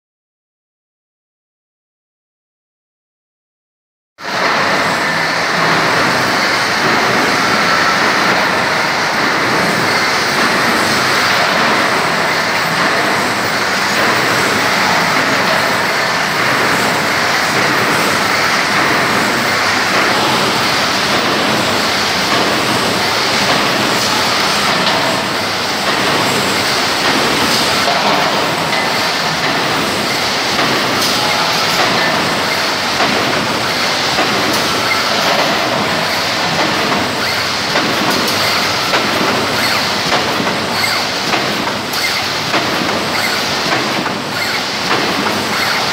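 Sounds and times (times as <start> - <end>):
welding machine mechanical din: 4.3 - 45.9.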